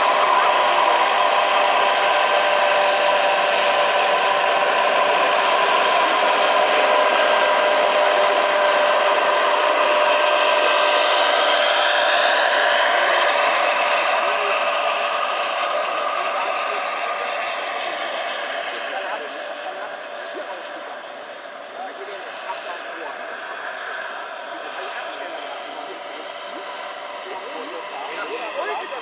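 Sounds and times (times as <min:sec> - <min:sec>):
gas turbine whine: 0:00.0 - 0:29.0
helicopter rotor rush: 0:00.0 - 0:29.0.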